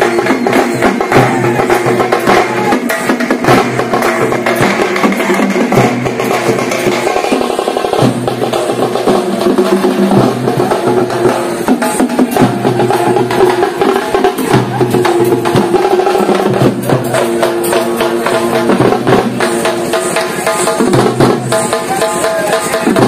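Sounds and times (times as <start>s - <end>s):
frame drums beaten fast: 0.0s - 23.0s.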